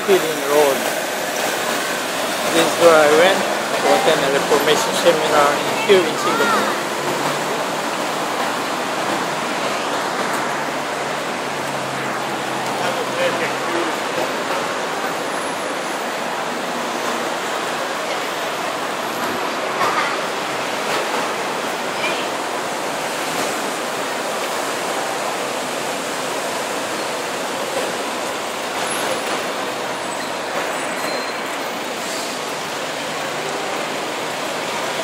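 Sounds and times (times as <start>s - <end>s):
busy road traffic: 0.0s - 35.0s.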